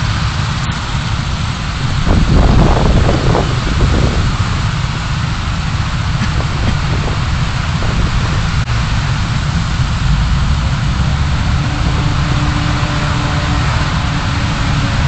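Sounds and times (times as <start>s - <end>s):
car engine and road noise: 0.0s - 15.0s
faint steady hum: 0.0s - 15.0s.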